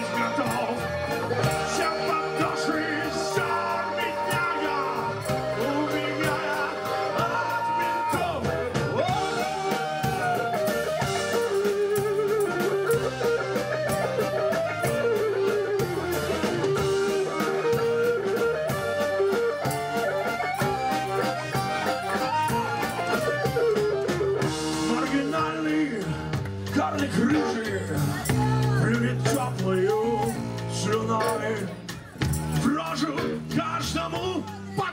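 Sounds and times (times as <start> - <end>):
accordion: 0.0 - 34.9
drum kit beat: 0.0 - 34.9
electric guitar lead: 0.0 - 34.9.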